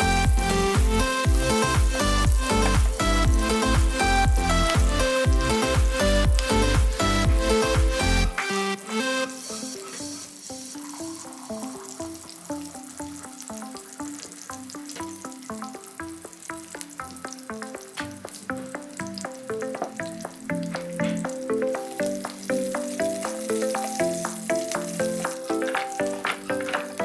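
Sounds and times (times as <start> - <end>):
food sizzling in oil: 0.0 - 4.5, 8.8 - 27.0
light background music: 0.0 - 27.0.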